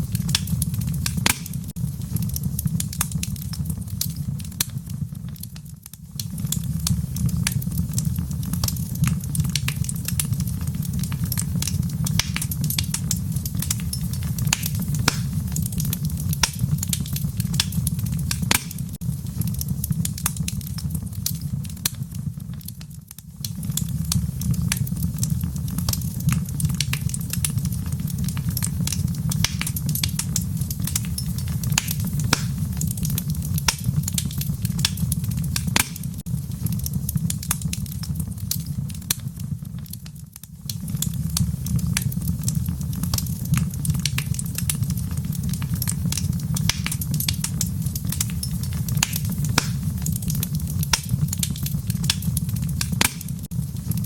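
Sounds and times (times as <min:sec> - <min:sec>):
fire pops: 0:00.0 - 0:54.0
low fire rumble: 0:00.0 - 0:54.0
wood fire crackling: 0:00.0 - 0:54.0.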